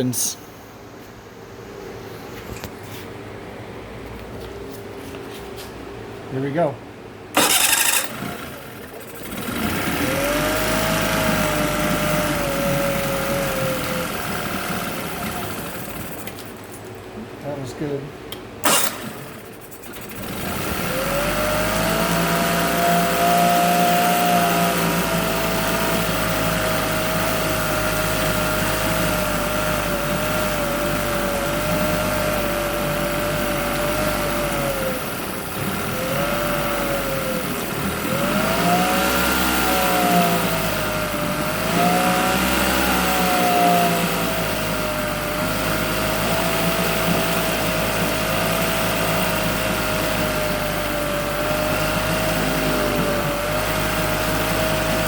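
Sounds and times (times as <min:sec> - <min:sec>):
outboard motor running: 0:07.3 - 0:18.0, 0:18.6 - 0:55.0.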